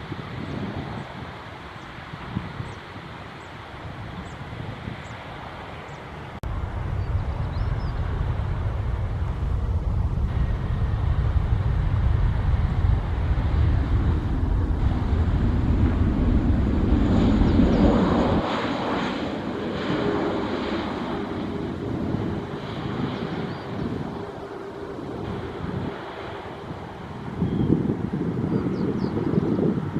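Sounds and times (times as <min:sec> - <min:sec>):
jet airliner rumble: 0:00.0 - 0:29.9
wind buffeting microphone: 0:00.0 - 0:29.9.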